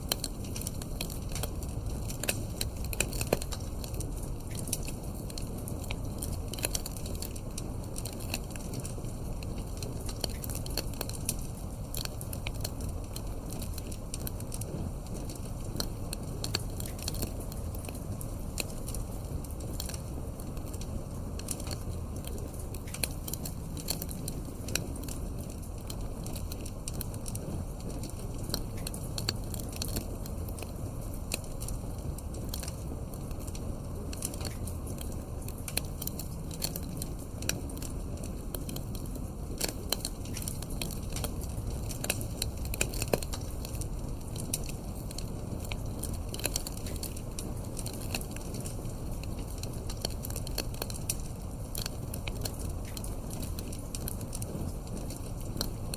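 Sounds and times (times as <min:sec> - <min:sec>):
low rumble of flame: 0:00.0 - 0:55.9
wood fire pops and snaps: 0:00.0 - 0:55.9.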